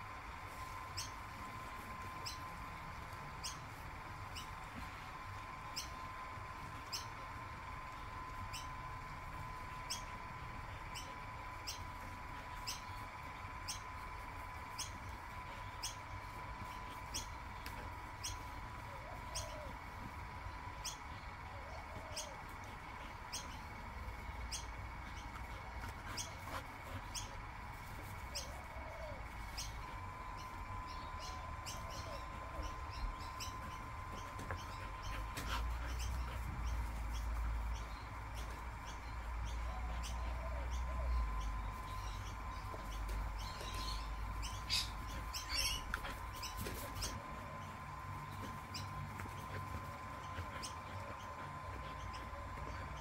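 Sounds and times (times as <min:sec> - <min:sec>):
bubble machine motor humming: 0:00.0 - 0:53.0.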